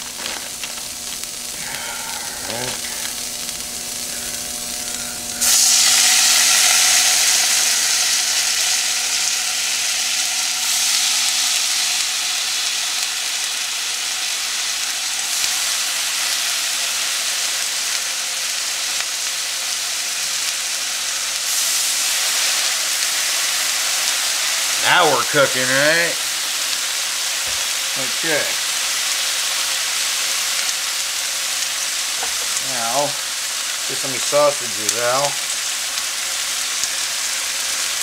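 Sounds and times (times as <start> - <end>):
bacon sizzling on a griddle: 0.0 - 38.0.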